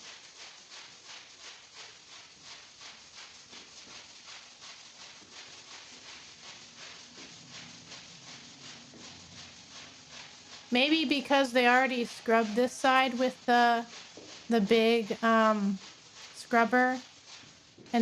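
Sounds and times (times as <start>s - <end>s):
scrub brush scrubbing wet rug: 0.0s - 18.0s.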